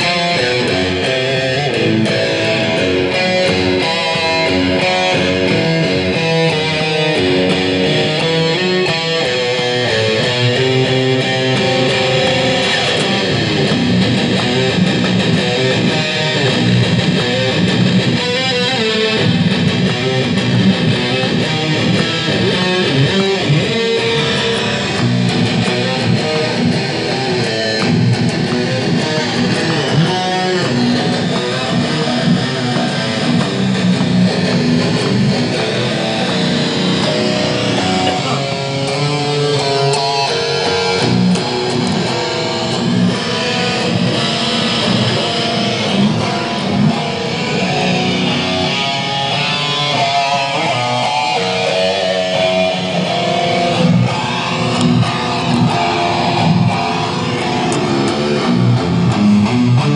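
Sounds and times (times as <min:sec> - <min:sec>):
electric guitar lead lines: 0:00.0 - 0:59.9.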